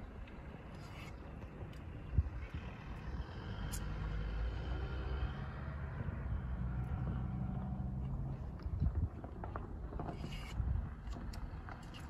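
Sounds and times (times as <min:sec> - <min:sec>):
low steady rumble with hum: 0:00.0 - 0:12.0.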